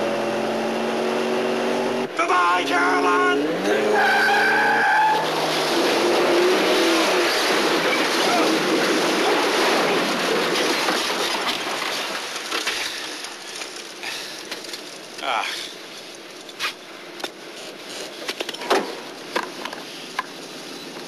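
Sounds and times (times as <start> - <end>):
car engines and tyres rushing: 0.0 - 21.0.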